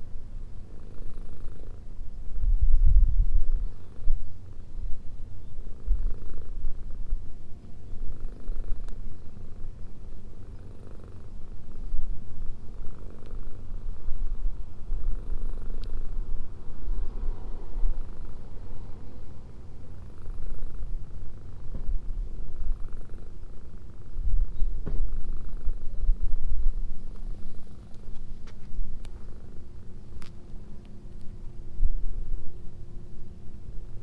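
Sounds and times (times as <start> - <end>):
cat purring: 0.5 - 2.0, 3.4 - 30.4.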